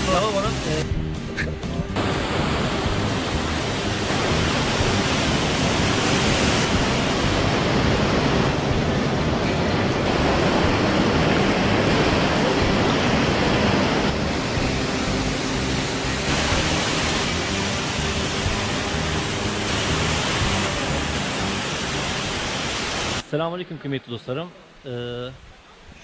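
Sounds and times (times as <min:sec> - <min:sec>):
waterfall pouring over rocks: 0:00.0 - 0:00.8, 0:02.0 - 0:23.2.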